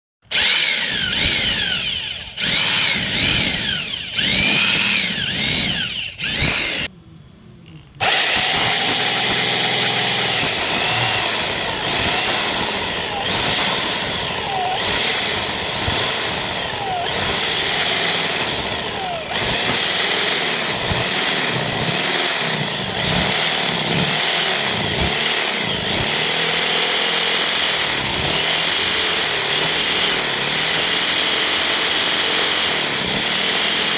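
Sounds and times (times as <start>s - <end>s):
mini drill motor whining: 0.2s - 6.9s, 8.0s - 33.9s.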